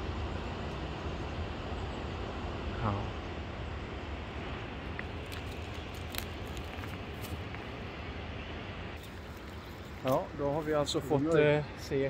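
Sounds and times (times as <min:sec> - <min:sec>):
low traffic hum: 0:00.0 - 0:12.0.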